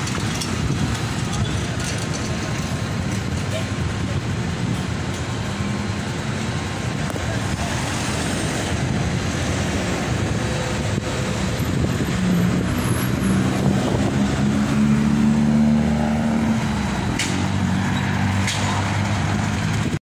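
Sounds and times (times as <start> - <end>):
passing cars: 0.0 - 20.0
vehicle engine hum: 0.0 - 20.0.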